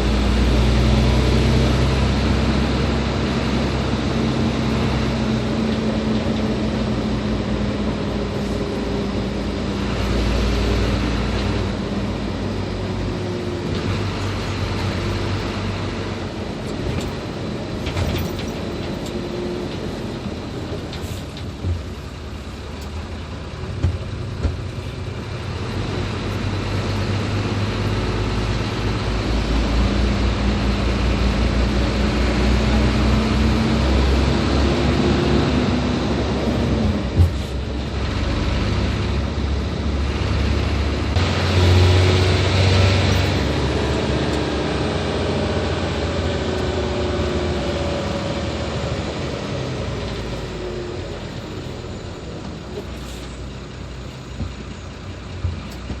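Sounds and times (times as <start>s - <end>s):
truck diesel engine driving: 0.0s - 56.0s.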